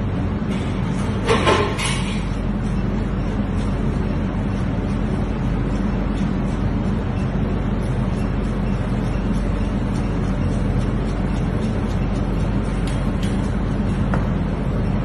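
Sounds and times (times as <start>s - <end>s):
loud low rumble with hum: 0.0s - 15.0s.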